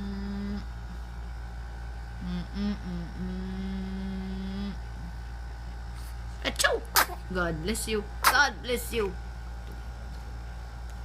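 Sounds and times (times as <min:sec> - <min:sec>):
faint background hum: 0:00.0 - 0:11.0
low steady humming tone: 0:00.0 - 0:11.0.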